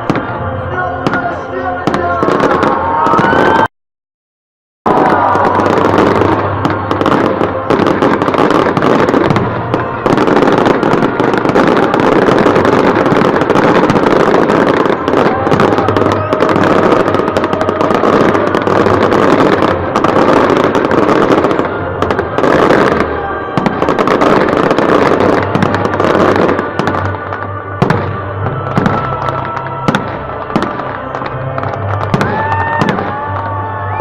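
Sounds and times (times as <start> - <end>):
fireworks crackling: 0.0 - 3.7, 4.9 - 34.0
fireworks sharp bangs: 4.9 - 33.6.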